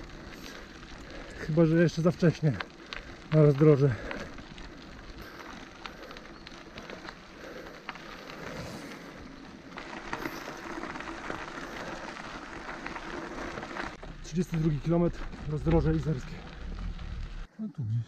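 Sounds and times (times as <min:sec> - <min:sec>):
bike tyres crunching on gravel: 0:00.0 - 0:17.5.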